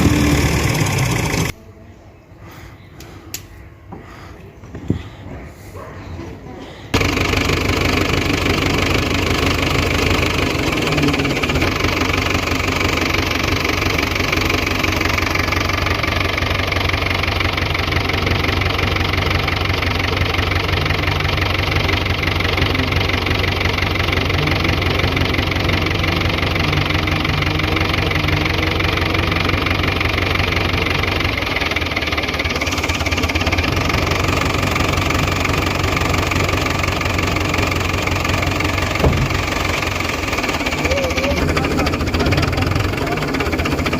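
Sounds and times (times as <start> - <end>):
tractor diesel engine running: 0.0 - 1.6, 6.6 - 43.9.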